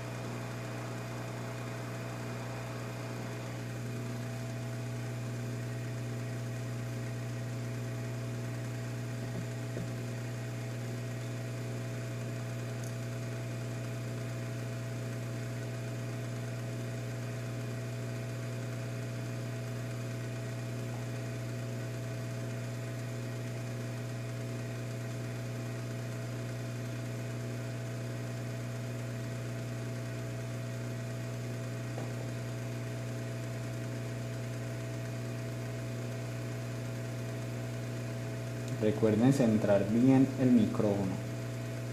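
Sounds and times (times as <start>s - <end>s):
hot air station electrical hum: 0.0s - 41.9s.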